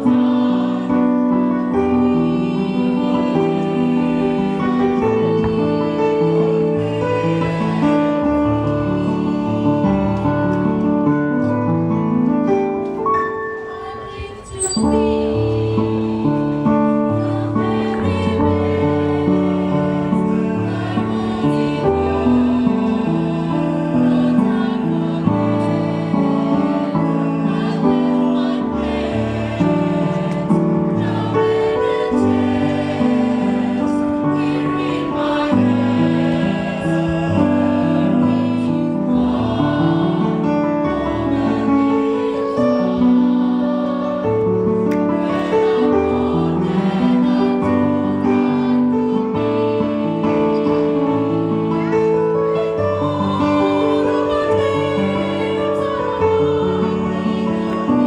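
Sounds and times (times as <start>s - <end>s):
mixed choir singing in harmony: 0.0s - 58.0s.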